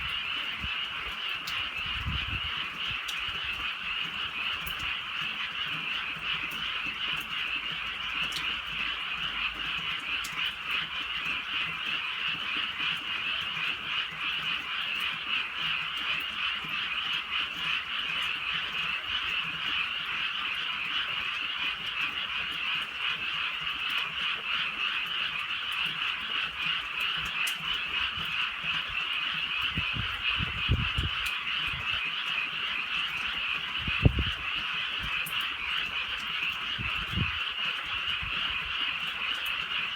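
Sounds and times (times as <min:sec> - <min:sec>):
frogs calling in chorus: 0:00.0 - 0:39.9.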